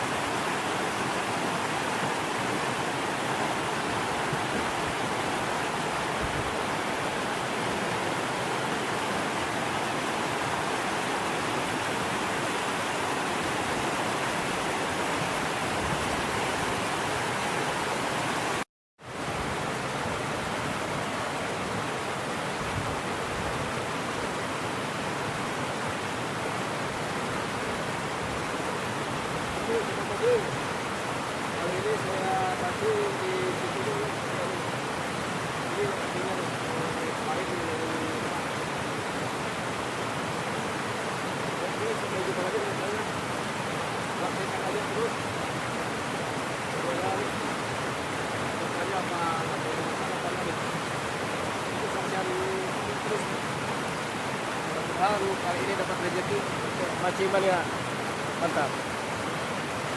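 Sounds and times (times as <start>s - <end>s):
river water rushing over rapids: 0.0s - 59.9s.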